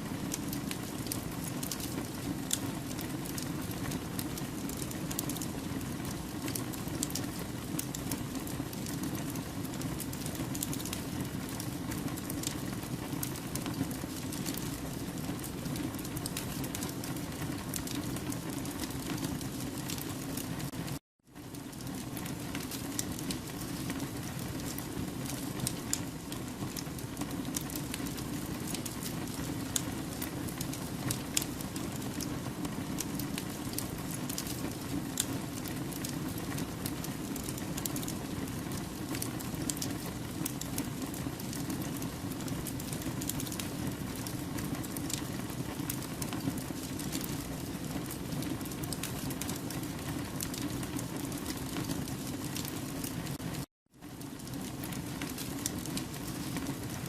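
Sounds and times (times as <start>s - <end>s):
logs crackling and popping: 0.1s - 57.0s.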